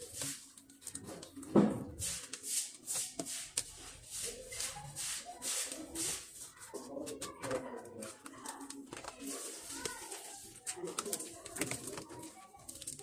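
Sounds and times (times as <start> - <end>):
rustling and rubbing: 0.0 - 13.0.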